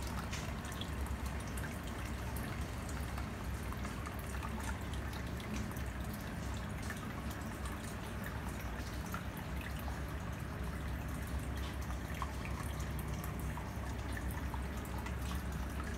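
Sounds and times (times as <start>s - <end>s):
aquarium bubbles popping: 0.0s - 15.9s
low steady hum: 0.0s - 15.9s.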